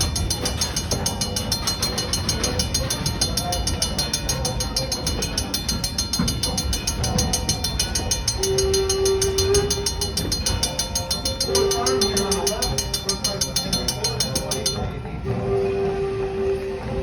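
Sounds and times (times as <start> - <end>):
steam train rumble: 0.0 - 17.0.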